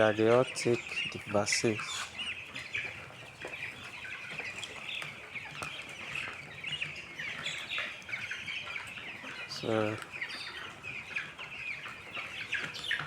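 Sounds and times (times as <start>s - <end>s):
chickens clucking and peeping: 0.0s - 13.0s.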